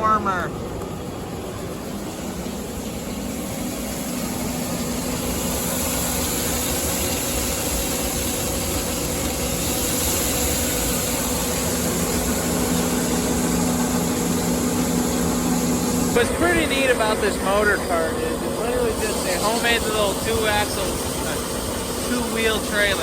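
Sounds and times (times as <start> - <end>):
grain dryer mechanical drone: 0.0 - 23.0.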